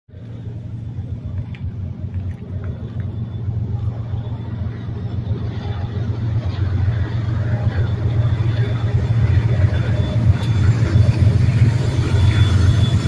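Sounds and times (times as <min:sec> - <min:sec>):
diesel locomotive engine rumble: 0:00.1 - 0:13.0.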